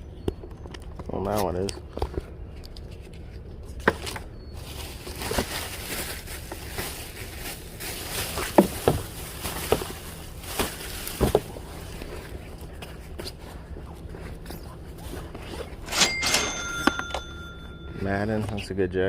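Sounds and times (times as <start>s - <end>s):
clothes and bags rustling: 0.6s - 18.8s.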